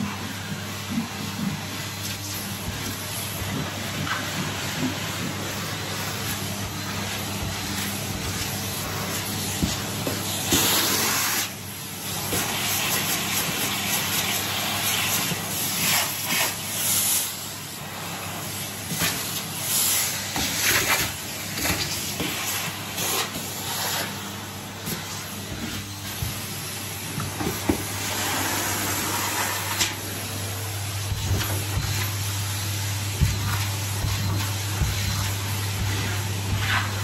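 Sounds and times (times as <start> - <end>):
vacuum cleaner motor hum: 0.0 - 15.5, 17.8 - 37.0
vacuum suction hiss: 0.1 - 37.0.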